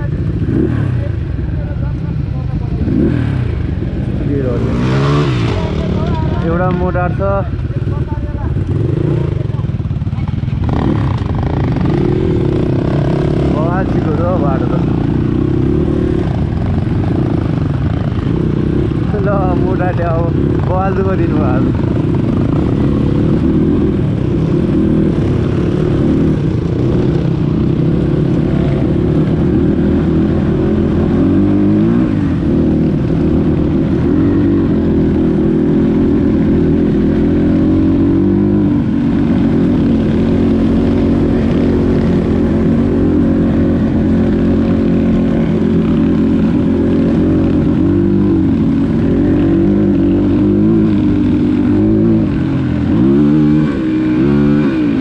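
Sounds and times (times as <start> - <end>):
dirt bike engine revving: 0.0 - 1.2, 2.7 - 55.0.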